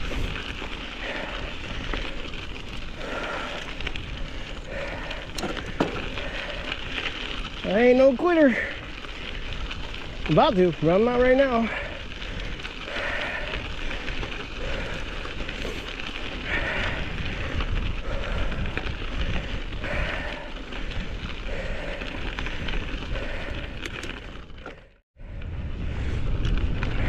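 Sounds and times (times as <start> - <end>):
bike tyres crackling on snow: 0.0 - 27.0
wind buffeting microphone: 0.0 - 27.0.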